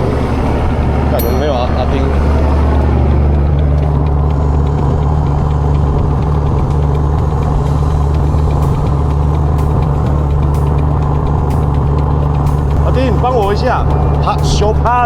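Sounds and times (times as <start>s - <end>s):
boat engine low drone: 0.0s - 15.0s.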